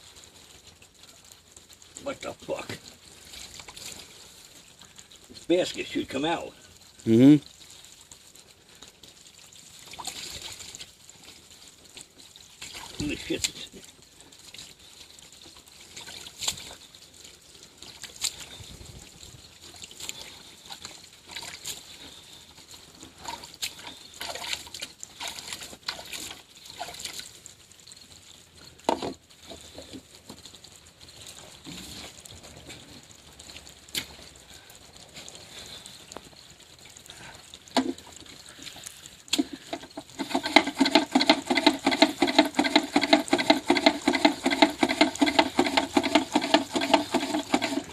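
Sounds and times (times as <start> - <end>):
water trickling and dripping: 0.0 - 47.9.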